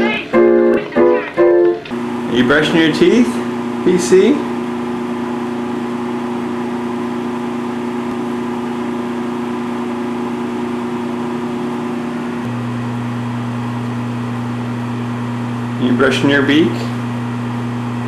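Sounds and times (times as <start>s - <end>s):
appliance electrical hum: 0.0s - 18.0s.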